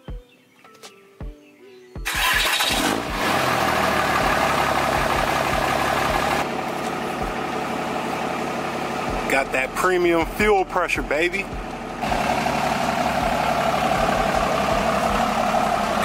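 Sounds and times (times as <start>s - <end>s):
diesel engine cranking and idling: 2.0s - 16.0s.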